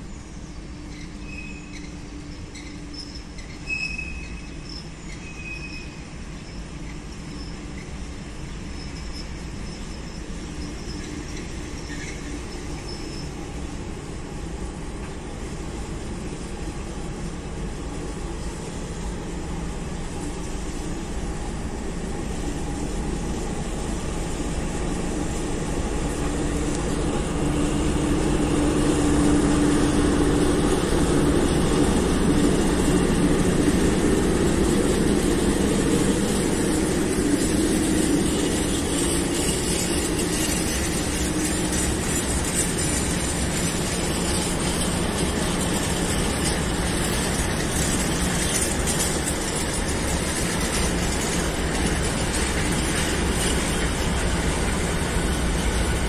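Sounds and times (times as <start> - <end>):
freight train passing: 0.0 - 56.0
wagons rolling on rails: 0.9 - 15.2, 16.2 - 56.0.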